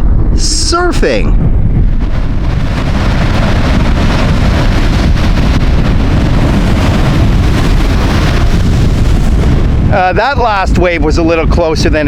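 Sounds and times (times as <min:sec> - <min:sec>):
wind buffeting microphone: 0:00.0 - 0:12.0
surf waves breaking: 0:00.4 - 0:12.0.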